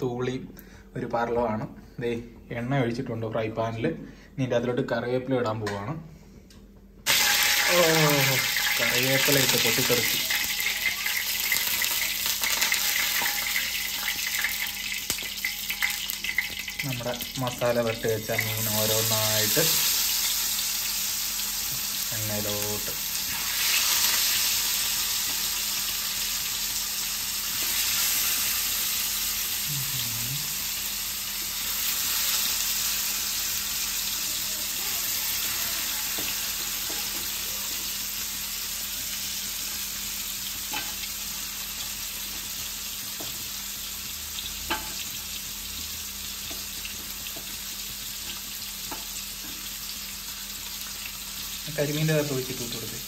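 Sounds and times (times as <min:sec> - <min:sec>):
fish sizzling in hot oil: 0:07.1 - 0:53.0.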